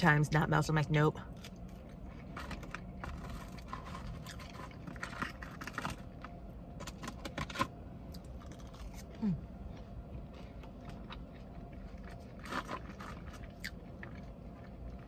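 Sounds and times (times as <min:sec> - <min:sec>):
low falling hum: 0:00.0 - 0:15.0
person chewing food: 0:01.3 - 0:15.0.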